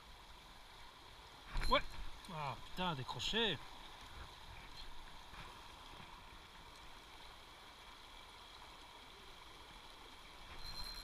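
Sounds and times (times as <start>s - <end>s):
river flowing over riffle: 0.0s - 11.0s.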